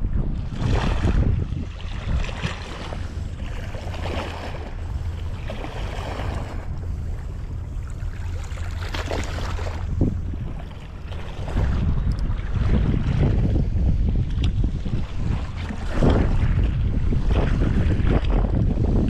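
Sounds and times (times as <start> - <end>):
water lapping: 0.0 - 19.0
wind buffeting microphone: 0.0 - 19.0.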